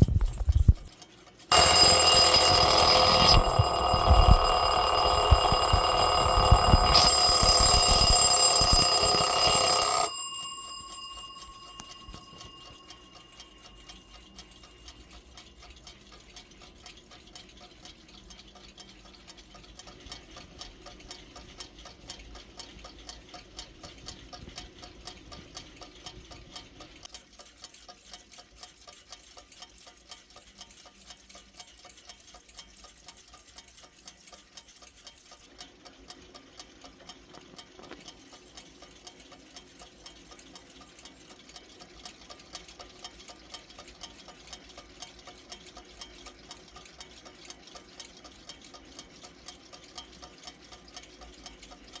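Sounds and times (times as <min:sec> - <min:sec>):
wind-up alarm clock ticking: 0:00.0 - 0:52.0.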